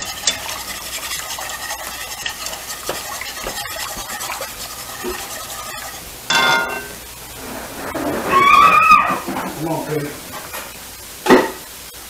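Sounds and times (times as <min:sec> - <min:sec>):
utensil scraping skillet: 0:00.0 - 0:10.8.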